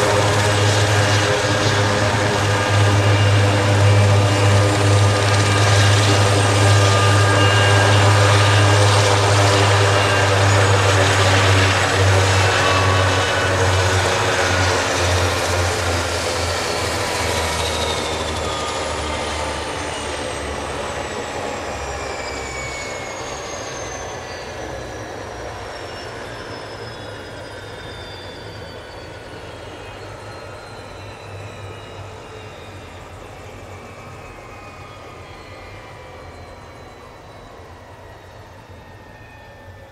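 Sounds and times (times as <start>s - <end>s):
helicopter rotor low beat: 0.0s - 39.9s
turbine whine gliding down: 0.0s - 39.9s.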